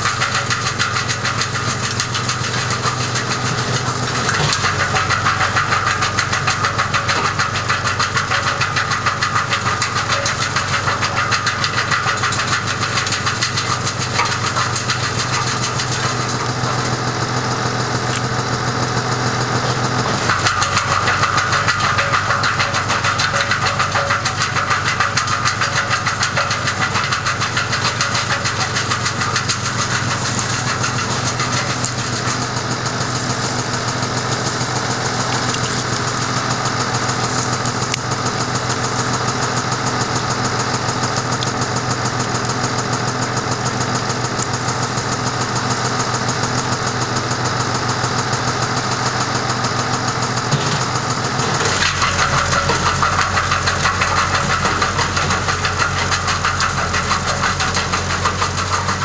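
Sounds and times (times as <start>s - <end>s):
wood chipper running: 0.0s - 59.0s.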